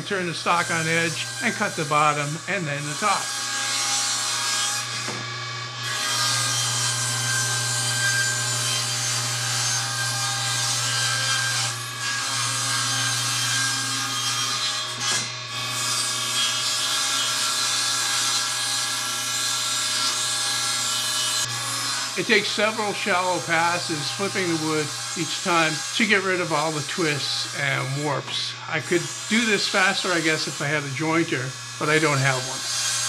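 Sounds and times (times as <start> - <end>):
saw motor hum: 0.0 - 15.0, 15.6 - 33.0
table saw ripping a board: 0.0 - 33.0.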